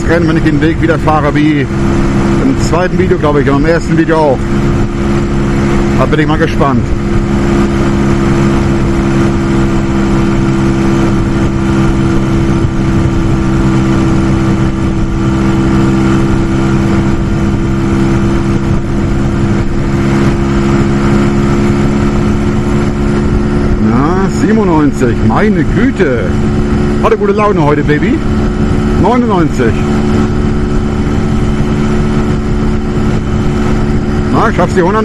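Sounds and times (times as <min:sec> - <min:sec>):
motorcycle engine at full throttle: 0:00.0 - 0:35.0
wind rush: 0:00.0 - 0:35.0.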